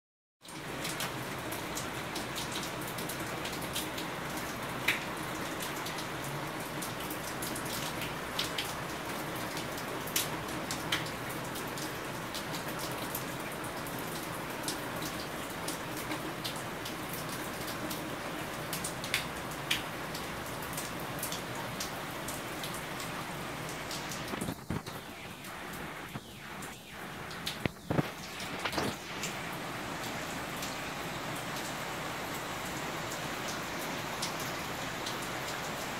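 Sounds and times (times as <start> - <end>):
raindrop ticks: 0.4 - 23.2, 23.9 - 35.9
steady rain hiss: 0.4 - 35.9.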